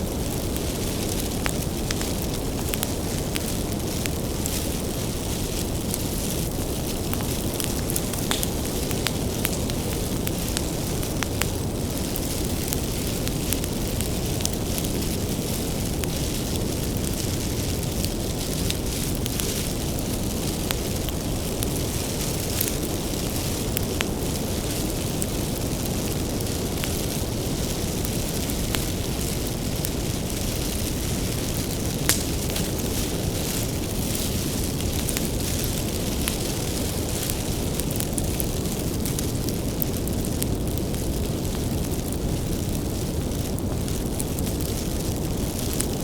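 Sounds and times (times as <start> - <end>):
bonfire rumbling and crackling: 0.0 - 46.0.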